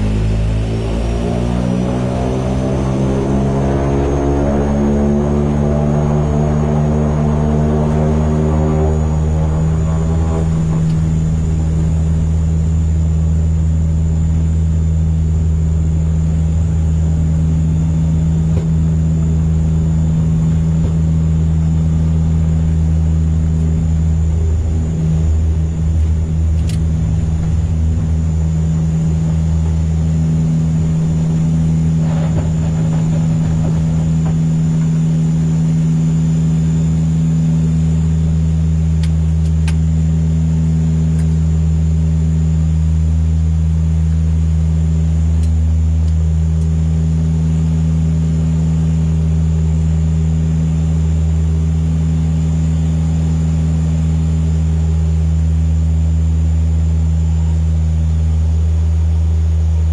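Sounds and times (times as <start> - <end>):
propeller aircraft droning in flight: 0.0 - 59.9.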